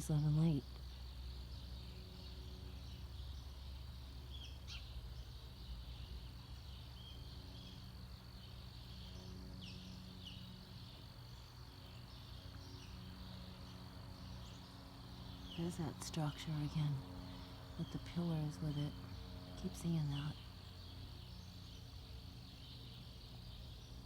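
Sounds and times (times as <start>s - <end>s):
bird chirps: 0.0s - 24.0s
low hum: 0.0s - 24.0s.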